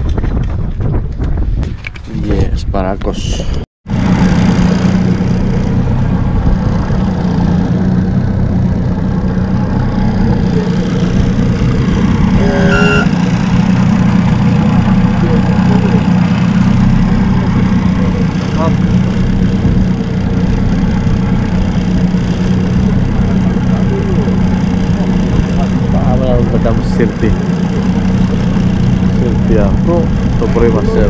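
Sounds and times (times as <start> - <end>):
wind: 0.0 - 31.0
outboard motor running: 3.9 - 31.0.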